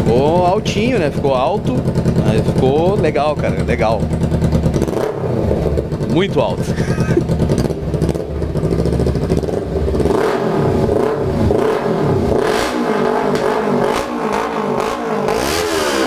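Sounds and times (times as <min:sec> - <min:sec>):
motorcycle engine loud exhaust: 0:00.0 - 0:16.0.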